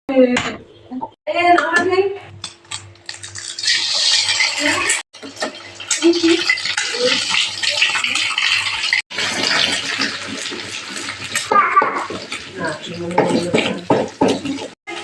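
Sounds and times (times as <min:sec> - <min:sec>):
pots and dishes clinking: 0:01.6 - 0:15.0
water running from tap: 0:02.8 - 0:15.0.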